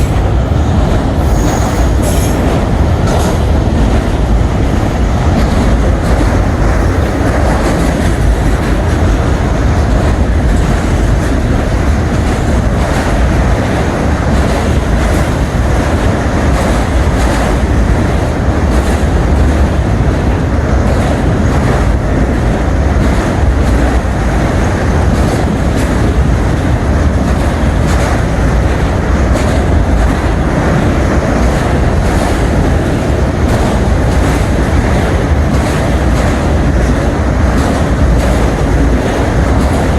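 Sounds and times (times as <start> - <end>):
freight train cars rumbling: 0.0 - 39.9
wheels clicking over rail joints: 0.0 - 39.9.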